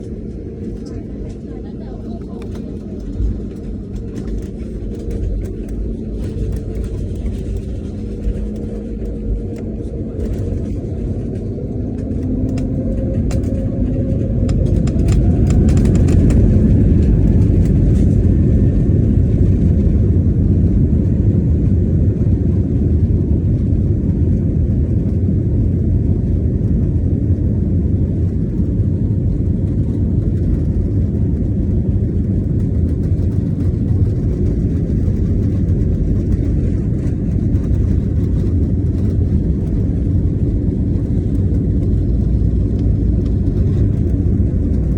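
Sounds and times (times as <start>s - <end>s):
jet engine rumble in cabin: 0.0s - 44.9s.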